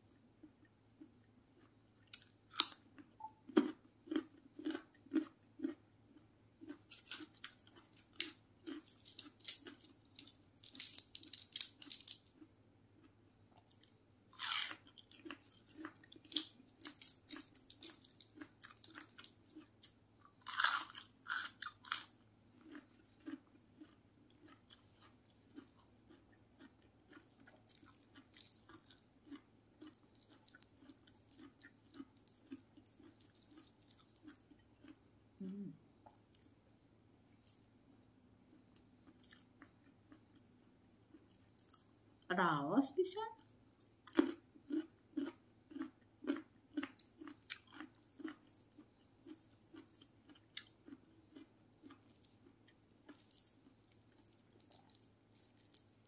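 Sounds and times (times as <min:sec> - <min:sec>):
person chewing crunchy vegetables: 0:00.4 - 0:42.0, 0:43.4 - 0:56.0.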